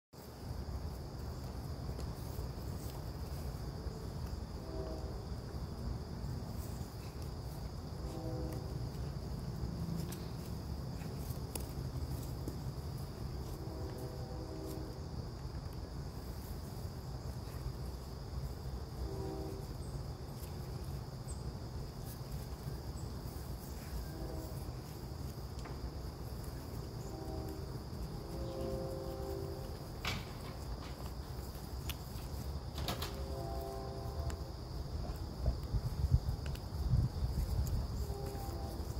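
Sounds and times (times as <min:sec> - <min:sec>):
insects chirring: 0:00.2 - 0:38.9.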